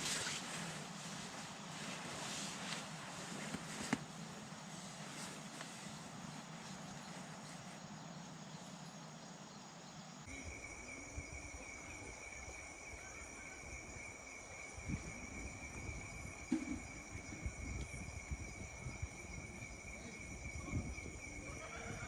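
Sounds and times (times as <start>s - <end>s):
night insects chirring: 0.0s - 22.0s.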